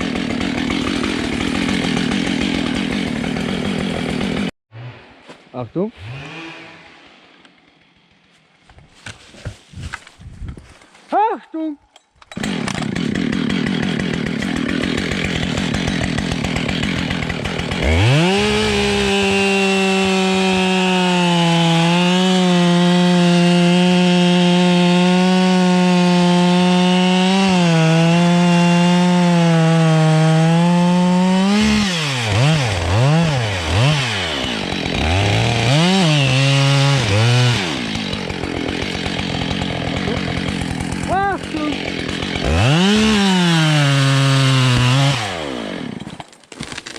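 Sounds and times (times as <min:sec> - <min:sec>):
chainsaw revving: 0:00.0 - 0:05.2, 0:06.0 - 0:08.3, 0:12.3 - 0:46.2.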